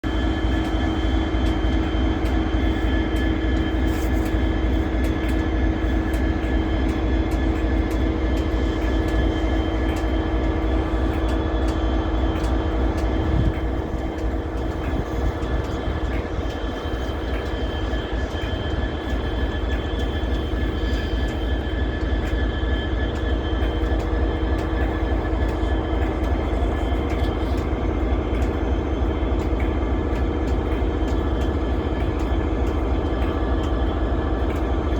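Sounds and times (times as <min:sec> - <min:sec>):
locomotive diesel engine droning: 0:00.0 - 0:34.9.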